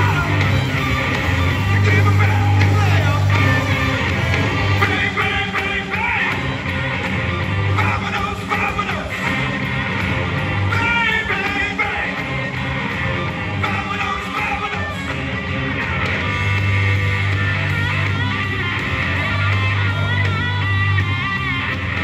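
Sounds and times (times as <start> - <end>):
rock song with singing: 0.0 - 22.0.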